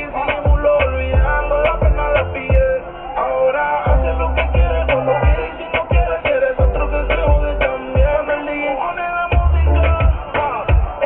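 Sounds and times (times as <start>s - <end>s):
music with deep bass kicks: 0.0s - 2.8s, 3.9s - 8.4s, 9.3s - 11.0s.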